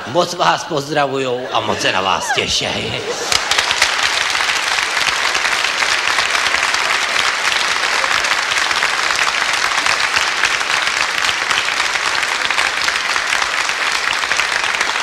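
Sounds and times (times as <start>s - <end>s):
audience applauding: 1.6s - 15.0s.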